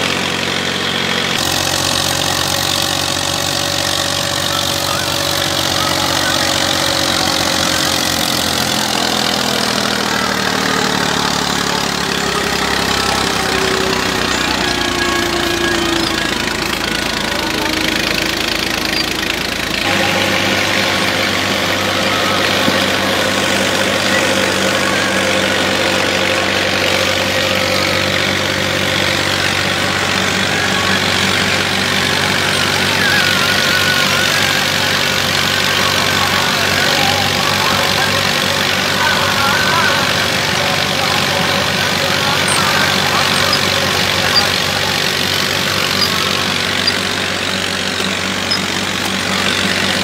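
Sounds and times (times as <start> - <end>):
brick-making machine working: 0.0 - 50.0
tractor diesel engine under load: 0.0 - 50.0.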